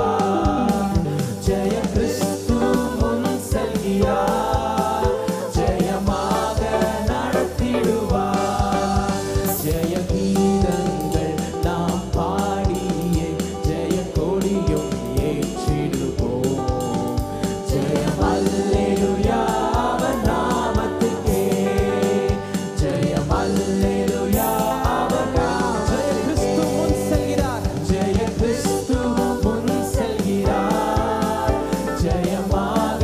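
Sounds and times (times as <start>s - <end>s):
instrumental accompaniment with drum beat: 0.0s - 33.0s
woman and man singing worship song: 0.0s - 33.0s.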